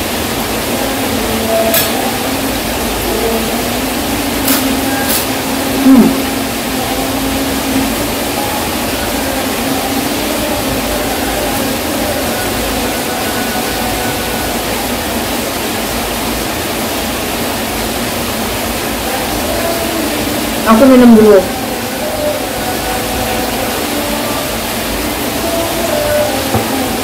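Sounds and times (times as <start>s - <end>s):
heavy rain hiss: 0.0s - 27.0s.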